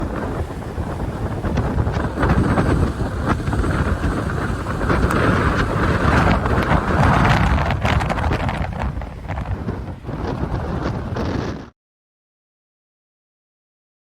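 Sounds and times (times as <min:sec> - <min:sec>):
strong wind buffeting microphone: 0:00.0 - 0:11.8.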